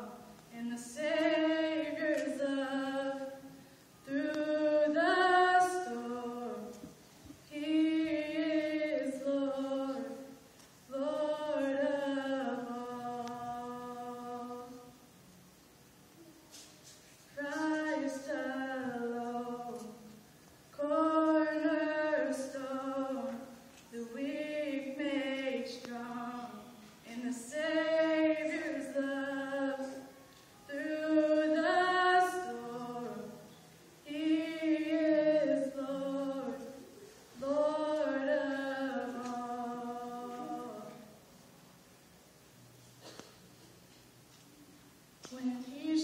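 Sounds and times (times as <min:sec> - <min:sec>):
woman singing unaccompanied: 0:00.0 - 0:15.1, 0:17.3 - 0:41.2, 0:45.2 - 0:46.0.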